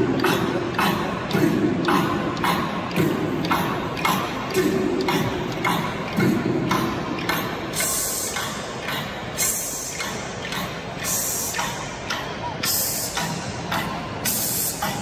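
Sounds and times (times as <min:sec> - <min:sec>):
crowd noise: 0:00.0 - 0:15.0
steady rhythmic beat: 0:00.0 - 0:15.0.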